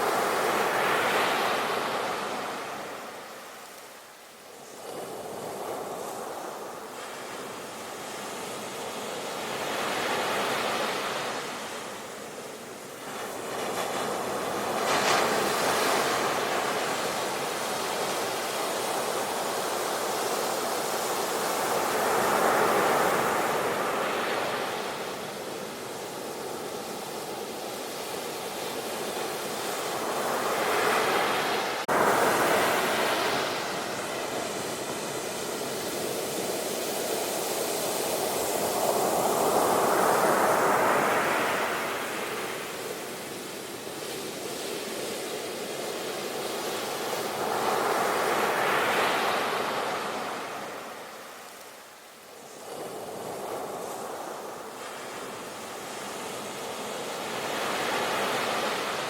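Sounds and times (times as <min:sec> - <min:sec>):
sea waves breaking on shore: 0:00.0 - 0:04.1, 0:04.8 - 0:59.0.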